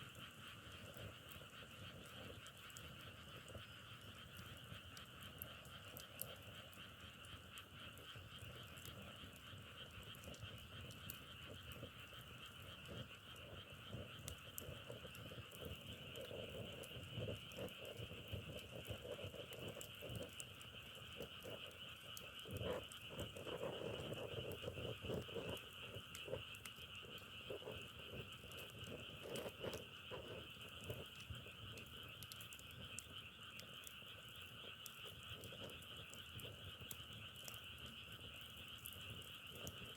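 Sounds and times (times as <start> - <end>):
deep frog croaks: 0.0 - 39.9
frogs trilling: 0.0 - 39.9
faint clicks: 0.1 - 39.9.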